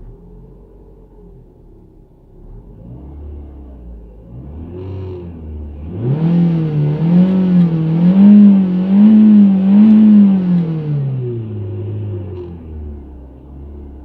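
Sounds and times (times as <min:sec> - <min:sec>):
car engine revving: 0:02.3 - 0:14.0.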